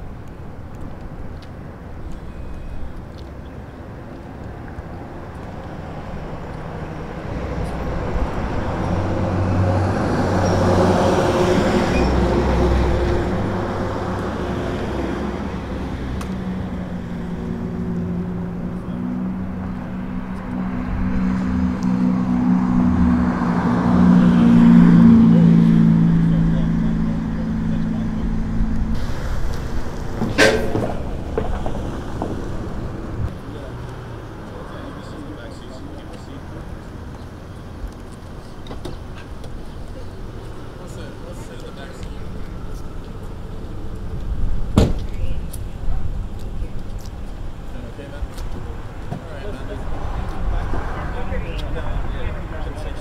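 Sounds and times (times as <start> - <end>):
engine hum: 0.0 - 53.0
vehicle passing: 3.2 - 53.0.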